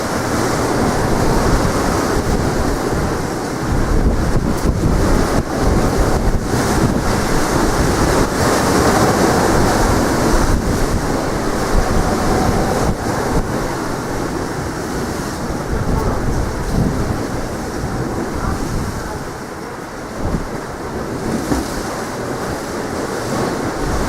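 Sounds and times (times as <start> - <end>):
waves breaking on shore: 0.0 - 24.0
wind buffeting microphone: 0.0 - 24.0.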